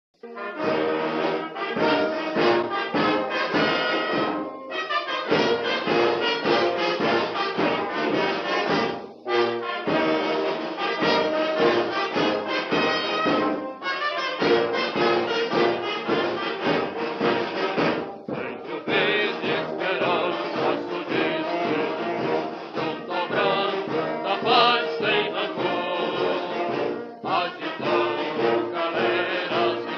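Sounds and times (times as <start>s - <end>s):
brass band playing: 0.2s - 29.9s.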